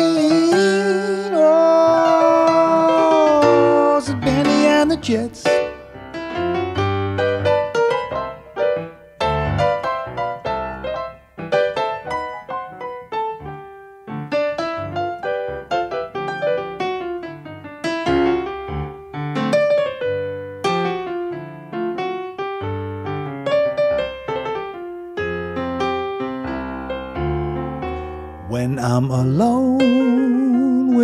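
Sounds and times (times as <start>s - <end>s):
digital piano playing: 0.0s - 31.0s.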